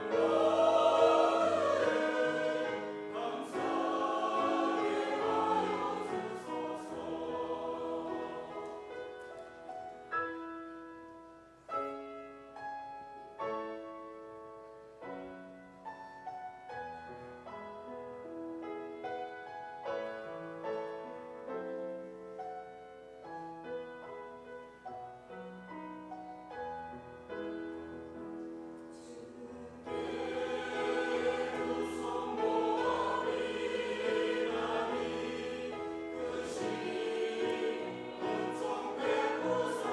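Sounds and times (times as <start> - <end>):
church choir singing: 0.0 - 12.0, 19.0 - 39.9
piano: 0.0 - 39.9.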